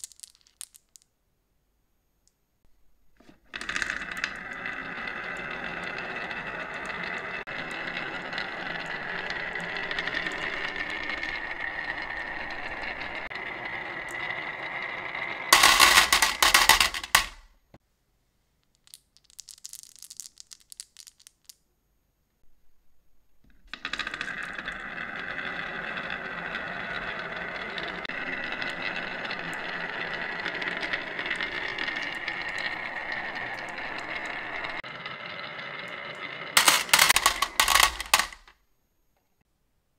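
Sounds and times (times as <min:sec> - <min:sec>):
marbles clattering into metal tin: 0:00.0 - 0:01.1, 0:03.5 - 0:17.5, 0:18.7 - 0:21.6, 0:23.6 - 0:38.6
marbles rolling down wooden track: 0:00.0 - 0:01.1, 0:03.3 - 0:17.5, 0:18.8 - 0:21.6, 0:23.5 - 0:38.6.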